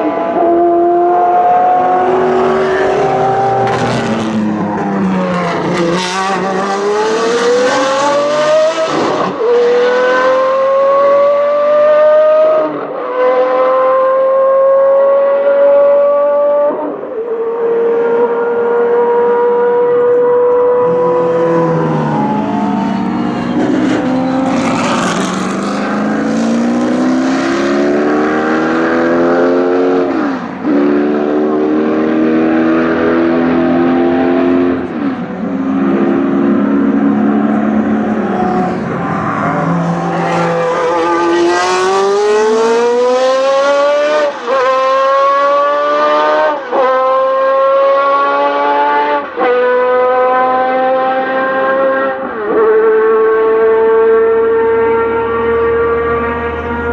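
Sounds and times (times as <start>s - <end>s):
racing car engines accelerating past: 0.0s - 56.9s.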